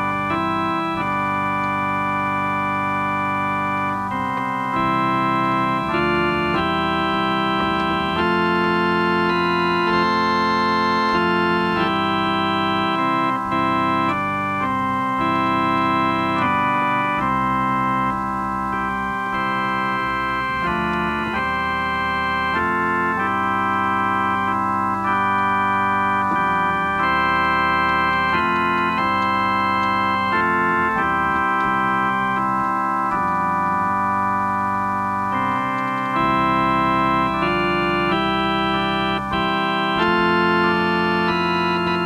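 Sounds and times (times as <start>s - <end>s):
organ chords on a keyboard: 0.0s - 42.0s.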